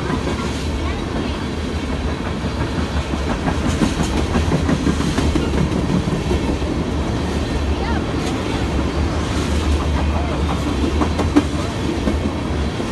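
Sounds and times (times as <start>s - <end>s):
freight train rumbling past: 0.0s - 12.9s
wheels clacking over rail joints: 0.0s - 12.9s.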